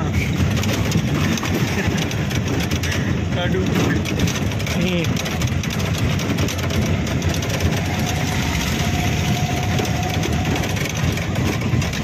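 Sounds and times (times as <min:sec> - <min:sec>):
auto-rickshaw engine running: 0:00.0 - 0:12.0.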